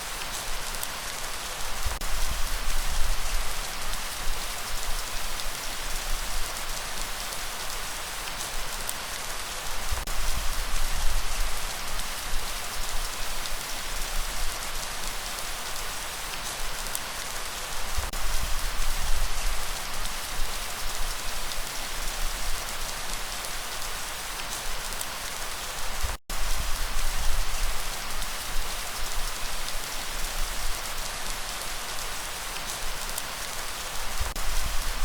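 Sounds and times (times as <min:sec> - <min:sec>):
steady rainfall: 0:00.0 - 0:35.0.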